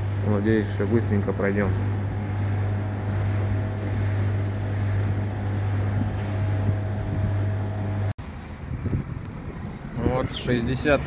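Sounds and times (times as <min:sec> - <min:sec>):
van engine humming: 0:00.0 - 0:11.0.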